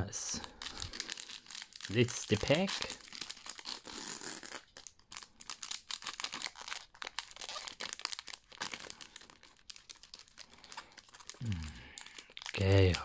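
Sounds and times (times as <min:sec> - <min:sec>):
foil wrapper crinkling: 0:00.4 - 0:13.0.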